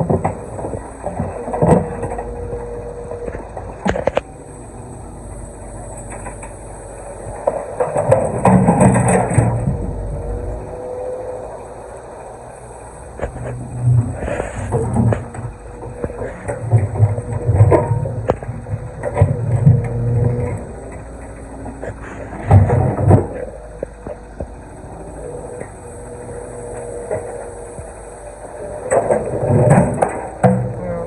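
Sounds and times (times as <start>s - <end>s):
excavator engine running: 0.0s - 31.0s
heavy rumbles of stone: 0.0s - 31.0s.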